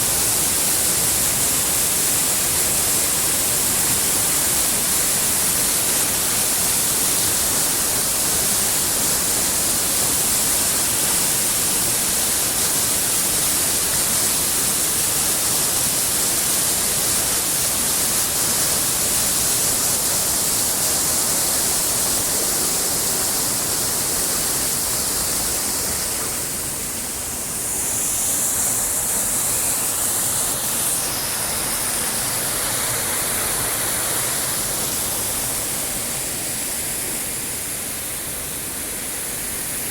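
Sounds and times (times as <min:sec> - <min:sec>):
water rushing over a dam: 0:00.0 - 0:39.9.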